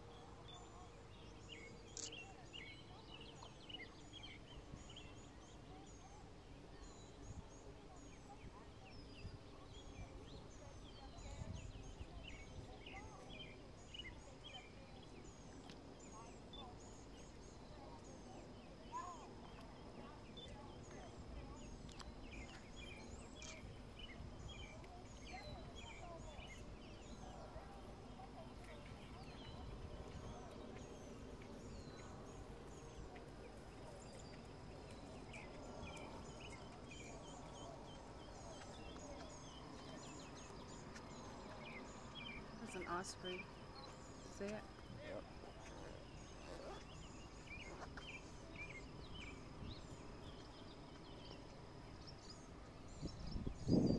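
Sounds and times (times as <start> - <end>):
small birds chirping and whistling: 1.2 - 6.2, 8.0 - 53.9.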